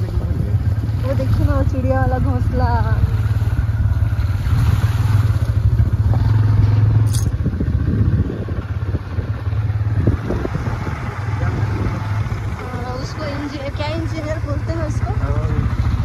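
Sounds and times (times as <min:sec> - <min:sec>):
motorcycle engine cruising: 0:00.0 - 0:16.0
road rumble: 0:00.0 - 0:16.0
wind: 0:00.0 - 0:16.0.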